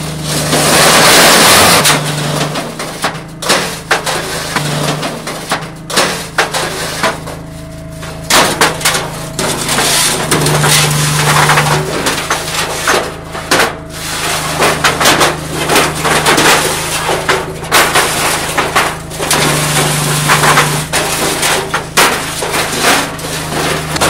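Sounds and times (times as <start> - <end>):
machine motor humming: 0.0 - 24.0
stones sliding off hopper: 0.0 - 24.0
paving stones clattering: 0.1 - 24.0.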